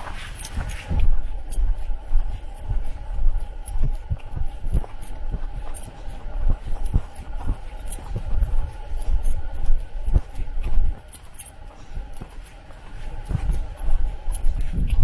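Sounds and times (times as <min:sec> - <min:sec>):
wind rumbling on microphone: 0:00.0 - 0:11.1, 0:12.0 - 0:15.0
footsteps on a trail: 0:00.0 - 0:15.0.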